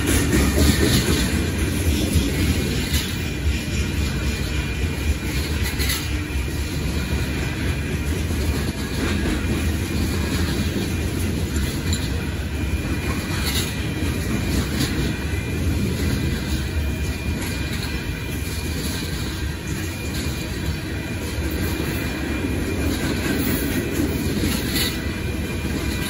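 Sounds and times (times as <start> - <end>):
train wheels rumbling on rails: 0.0 - 26.0
wheels clacking over rail joints: 0.0 - 26.0.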